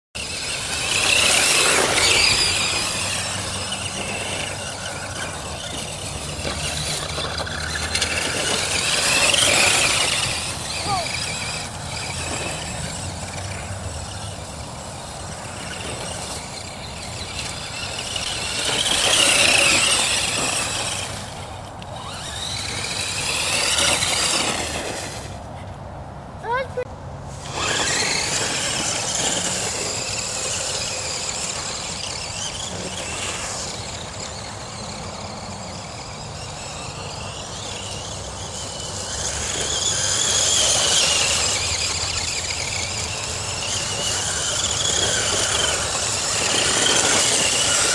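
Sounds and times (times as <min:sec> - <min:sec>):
electric toy truck motor whining: 0:00.2 - 0:25.4, 0:27.4 - 0:47.9.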